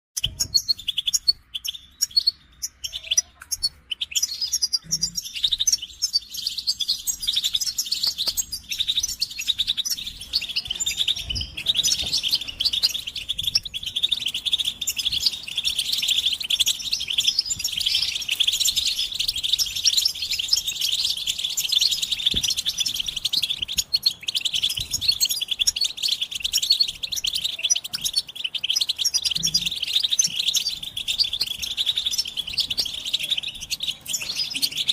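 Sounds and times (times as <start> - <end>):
finches twittering: 0.2 - 34.9.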